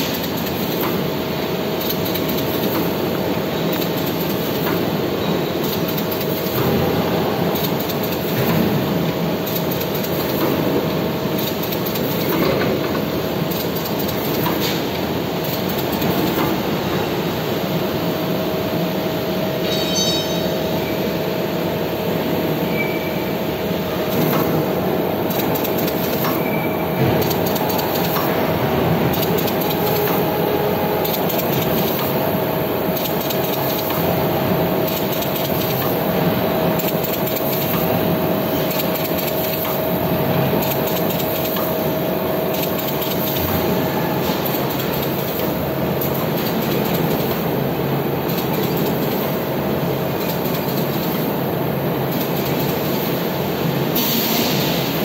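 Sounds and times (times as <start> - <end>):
machine mechanical clatter: 0.0 - 17.0, 24.0 - 53.4.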